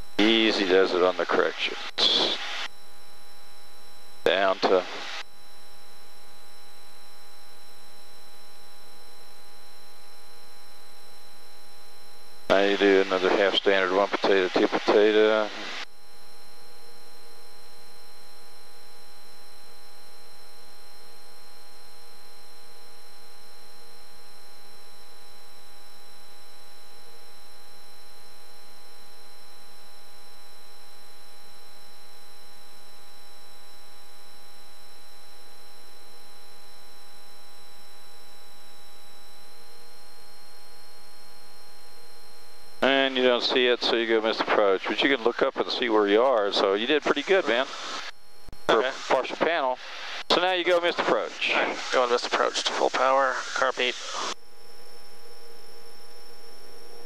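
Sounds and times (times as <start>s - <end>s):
electrical hum and whine: 0.0s - 57.0s.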